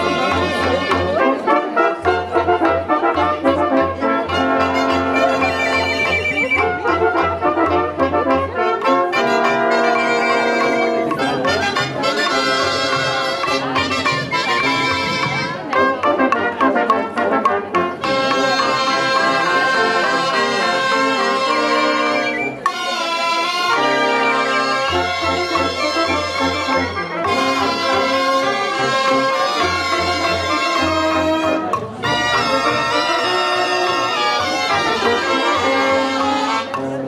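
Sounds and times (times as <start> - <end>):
brass melody: 0.0 - 37.0
double bass: 0.0 - 37.0
wind band playing: 0.0 - 37.0.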